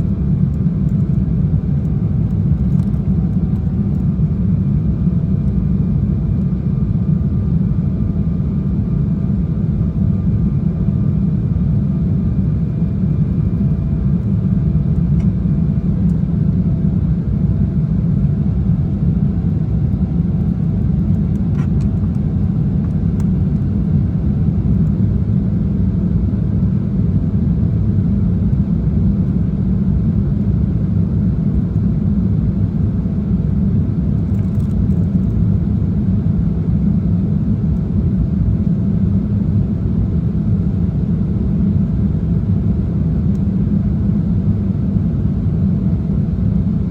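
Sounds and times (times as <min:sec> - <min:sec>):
airliner cabin rumble: 0:00.0 - 0:46.9.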